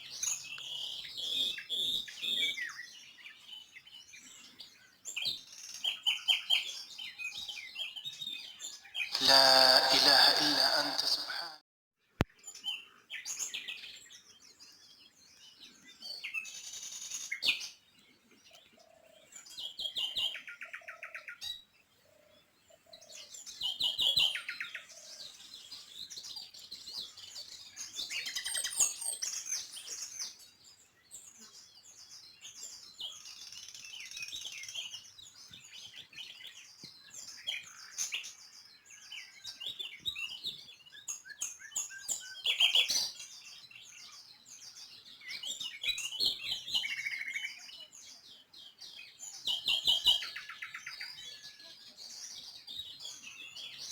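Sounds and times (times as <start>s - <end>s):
small birds chirping and trilling: 0.0s - 10.0s, 12.3s - 53.9s.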